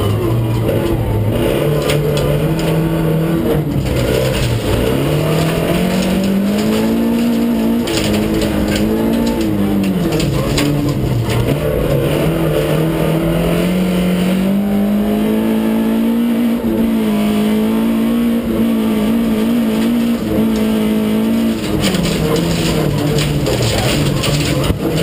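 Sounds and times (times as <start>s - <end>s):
car engine revving under load: 0.0s - 25.0s.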